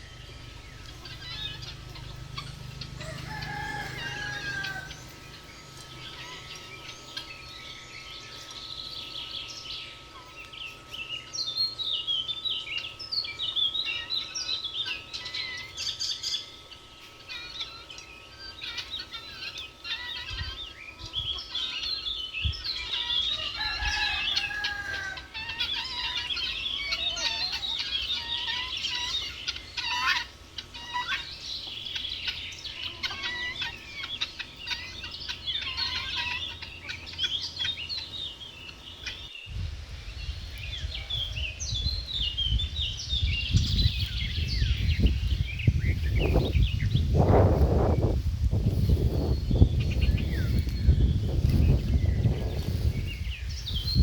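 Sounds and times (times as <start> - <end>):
chickens clucking: 0.0 - 39.3, 40.6 - 54.0
drawn-out chicken call: 0.0 - 39.3, 40.8 - 54.0
small birds chirping: 0.0 - 54.0.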